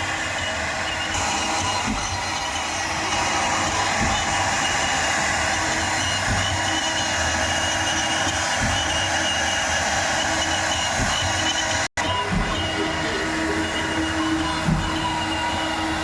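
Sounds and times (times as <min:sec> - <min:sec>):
drive motor pitch glides: 0:00.0 - 0:16.0
router spindle whine: 0:00.0 - 0:16.0.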